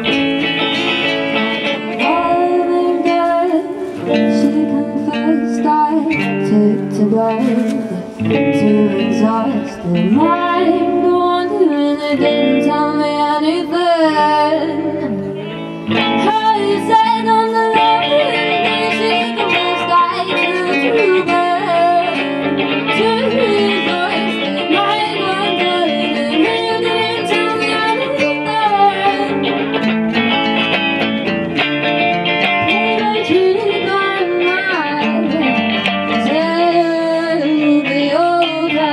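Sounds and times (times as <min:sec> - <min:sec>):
person singing: 0:00.0 - 0:29.9, 0:32.4 - 0:38.9
acoustic guitar strumming: 0:00.0 - 0:38.9.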